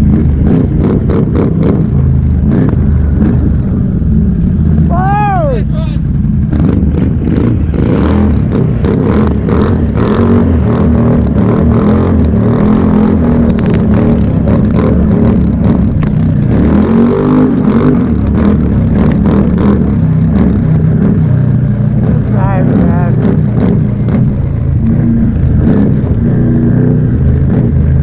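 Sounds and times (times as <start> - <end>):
atv engine at full throttle: 0.0 - 28.0.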